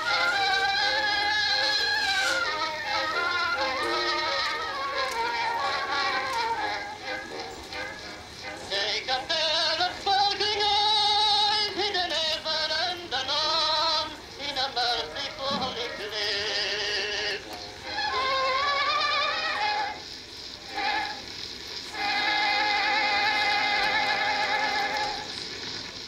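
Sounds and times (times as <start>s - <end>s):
phonograph playing vibrato singing: 0.0s - 26.0s.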